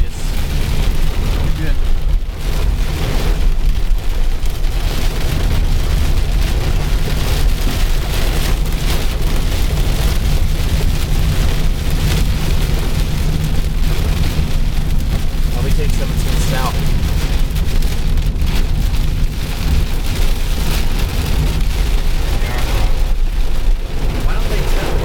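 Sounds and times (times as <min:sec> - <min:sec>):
heavy rain pelting car: 0:00.0 - 0:25.0
road and wind rumble: 0:00.0 - 0:25.0.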